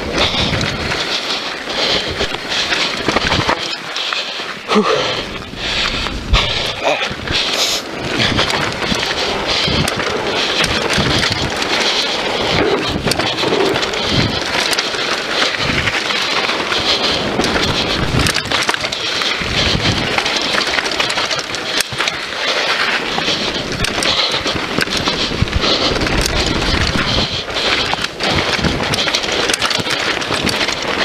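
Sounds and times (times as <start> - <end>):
wind rushing over microphone: 0.0 - 3.7, 4.6 - 31.0
bike chain clattering and clicking: 0.0 - 31.0
bike tyres rolling on dirt: 0.0 - 31.0.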